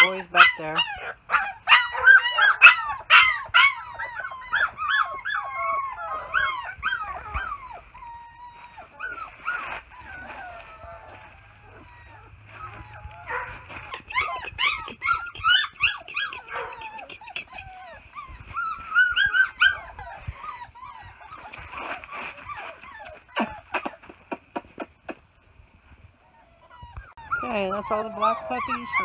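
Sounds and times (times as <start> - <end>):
puppies whining and yelping: 0.0 - 29.0.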